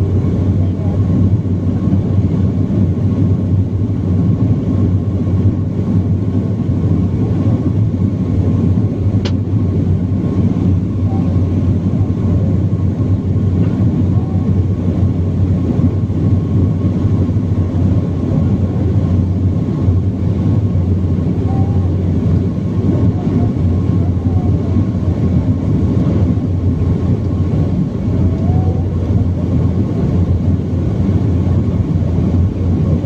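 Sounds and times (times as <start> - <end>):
jet cabin drone: 0.0 - 33.0.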